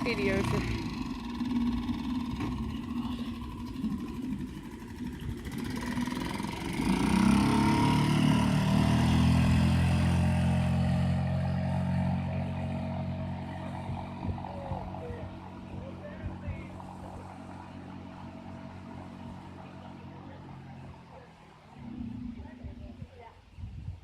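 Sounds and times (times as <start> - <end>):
outboard motor running: 0.0 - 23.2.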